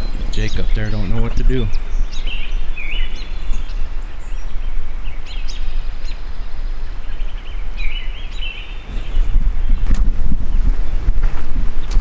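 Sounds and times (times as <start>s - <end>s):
small birds chirping and warbling: 0.0s - 12.0s
wind rumble on microphone: 0.0s - 12.0s.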